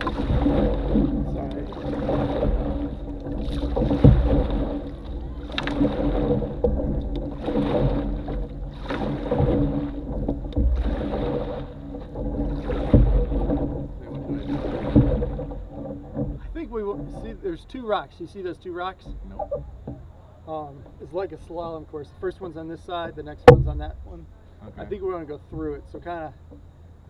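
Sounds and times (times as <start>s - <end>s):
paddle knocks on canoe: 0.0s - 18.0s, 18.9s - 21.8s, 23.0s - 24.2s, 24.8s - 26.8s
water swishing along hull: 0.0s - 27.0s.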